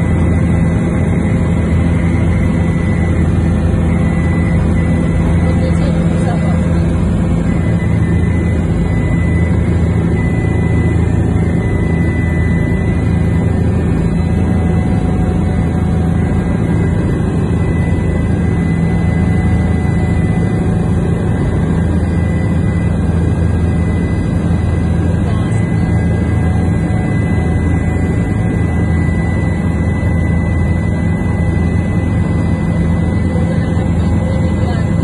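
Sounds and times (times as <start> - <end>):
aircraft engine drone: 0.0 - 35.0
faint high whine: 0.0 - 35.0.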